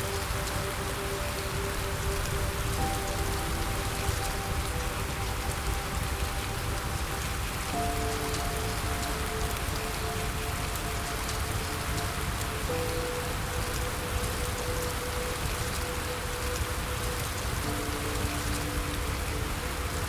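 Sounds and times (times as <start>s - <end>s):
soft sustained music notes: 0.0s - 20.0s
steady rain falling: 0.0s - 20.0s.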